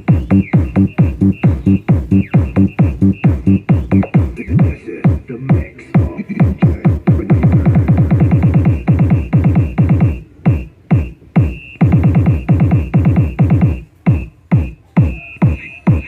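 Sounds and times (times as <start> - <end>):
deep kick-drum hits: 0.0 - 16.0
electronic dance music: 0.0 - 16.0.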